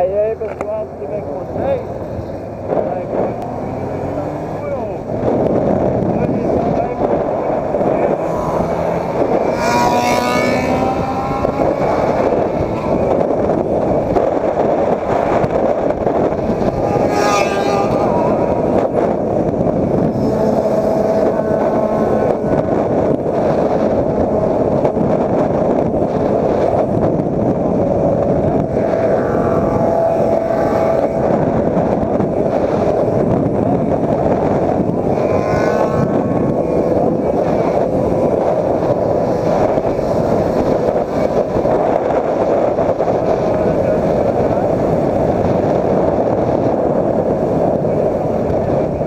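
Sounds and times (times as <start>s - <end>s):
motorcycle engines: 0.0s - 49.0s
wind buffeting microphone: 0.0s - 49.0s.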